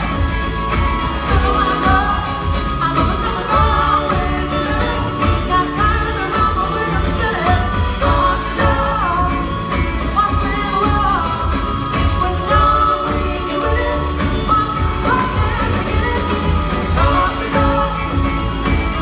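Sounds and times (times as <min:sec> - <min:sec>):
drums: 0:00.0 - 0:19.0
electric guitar: 0:00.0 - 0:19.0
keyboards: 0:00.0 - 0:19.0
upright bass: 0:00.0 - 0:19.0
woman singing lead: 0:00.0 - 0:19.0.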